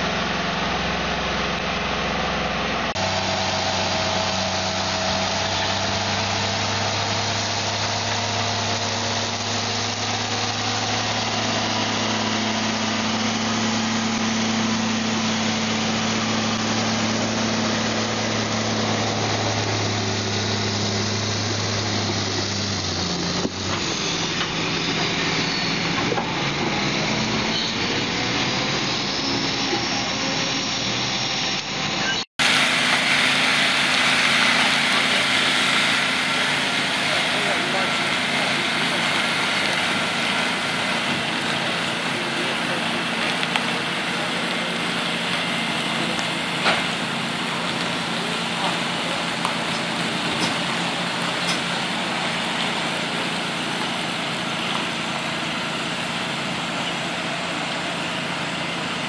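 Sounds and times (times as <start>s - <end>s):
another truck engine: 0.0s - 59.0s
rough engine and road noise: 0.0s - 59.0s
truck diesel engine hum: 0.0s - 59.0s.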